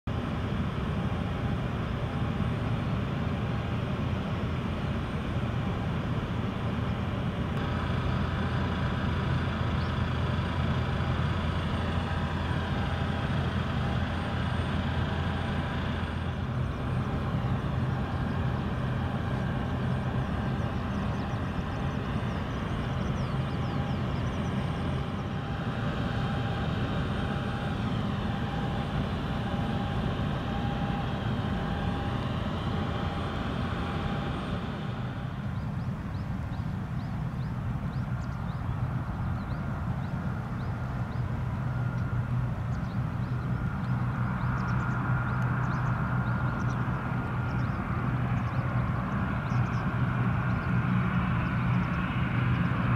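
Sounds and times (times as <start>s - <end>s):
engine drone: 0.0s - 52.9s
faint whine: 0.1s - 52.9s.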